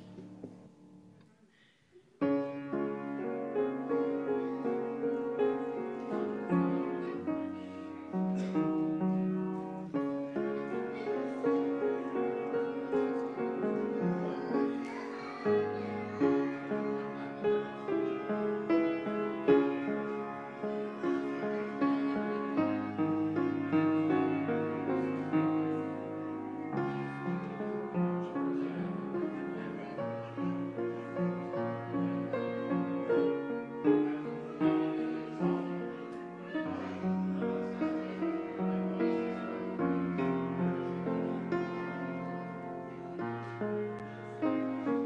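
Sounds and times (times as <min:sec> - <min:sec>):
grand piano chords: 0:00.0 - 0:01.4, 0:02.2 - 0:45.0.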